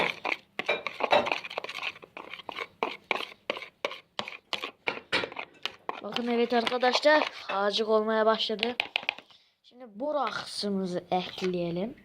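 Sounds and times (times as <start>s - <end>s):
spoon stirring slime: 0.0s - 9.4s, 10.1s - 11.9s.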